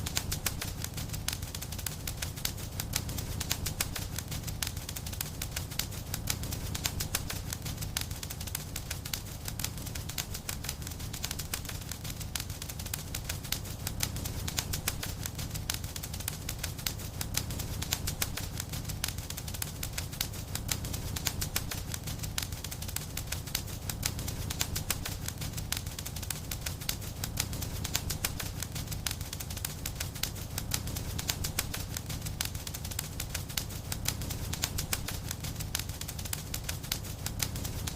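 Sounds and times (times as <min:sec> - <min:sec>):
flames rumbling: 0:00.0 - 0:37.9
wood fire crackling: 0:00.0 - 0:37.9.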